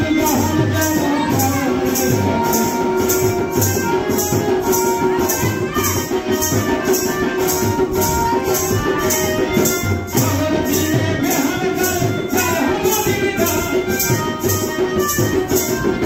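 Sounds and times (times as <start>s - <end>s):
low drum beat: 0.0s - 16.0s
shaken percussion rhythm: 0.0s - 16.0s.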